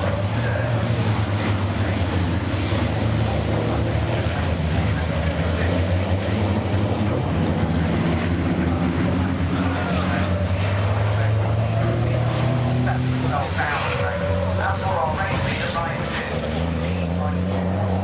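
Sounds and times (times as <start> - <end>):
diesel truck engines droning: 0.0 - 18.0.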